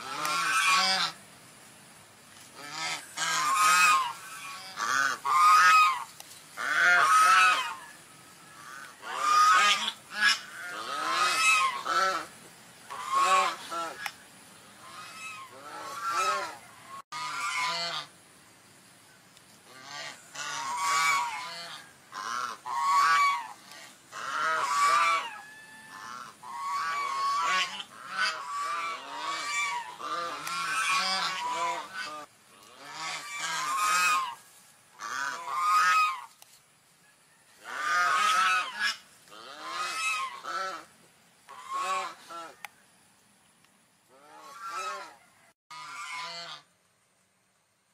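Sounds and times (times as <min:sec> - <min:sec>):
swans calling: 0:00.0 - 0:01.2, 0:02.4 - 0:18.2, 0:19.6 - 0:36.4, 0:37.6 - 0:42.6, 0:44.1 - 0:46.7.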